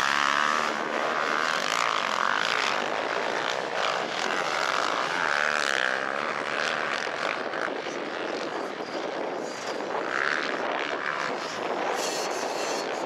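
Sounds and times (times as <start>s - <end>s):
motorcycle engines buzzing: 0.0s - 13.0s.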